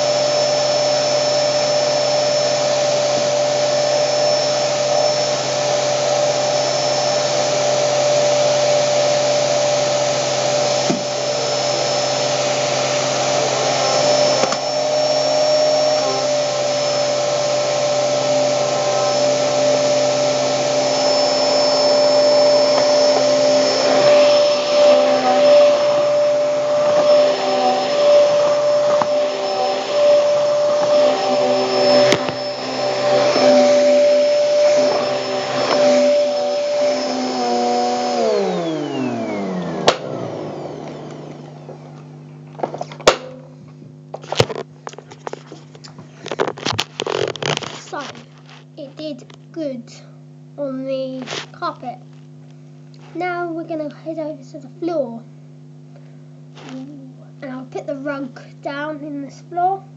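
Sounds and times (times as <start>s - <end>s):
vacuum cleaner motor whine: 0.0s - 49.4s, 50.2s - 59.9s.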